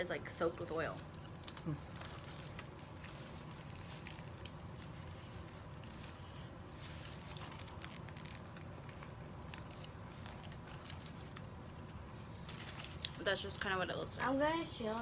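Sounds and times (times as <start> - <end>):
people eating clicks and crackles: 1.0 - 13.4.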